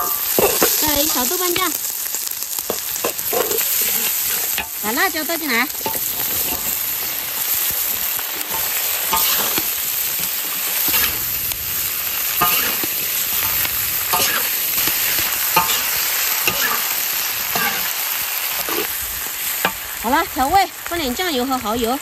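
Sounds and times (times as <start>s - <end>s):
metal spatula scraping wok: 0.0s - 19.9s
food sizzling in a wok: 0.0s - 22.0s.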